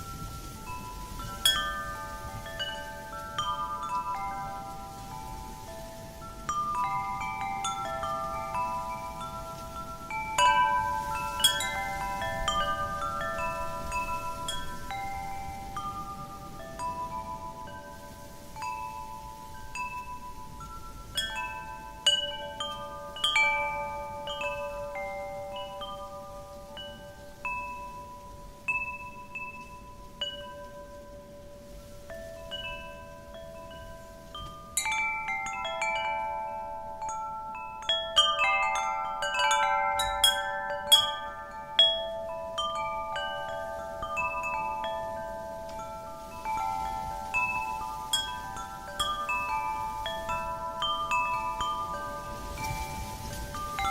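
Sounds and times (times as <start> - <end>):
low rush of wind: 0.0 - 53.9
wind chimes ringing: 0.0 - 53.9.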